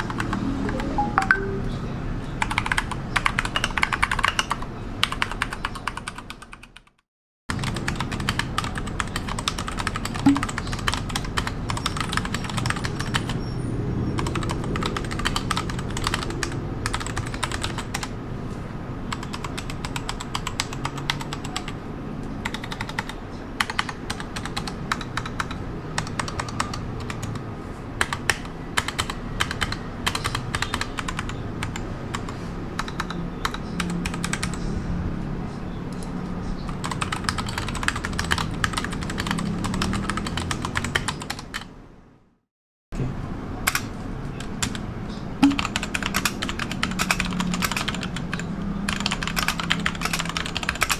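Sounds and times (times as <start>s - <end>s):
mechanical keyboard typing: 0.0s - 1.5s, 2.4s - 6.9s, 7.6s - 13.4s, 14.2s - 18.1s, 19.1s - 21.8s, 22.4s - 27.4s, 28.0s - 34.6s, 36.7s - 41.7s, 43.7s - 44.8s, 45.4s - 50.9s.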